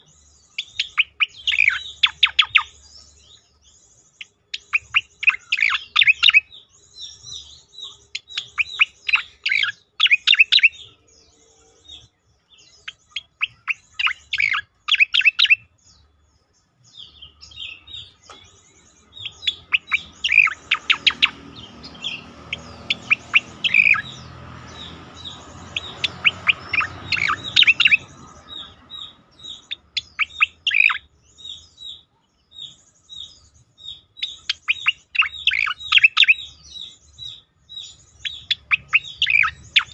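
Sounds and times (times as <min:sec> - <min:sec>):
bird singing falling notes: 0:00.0 - 0:39.9.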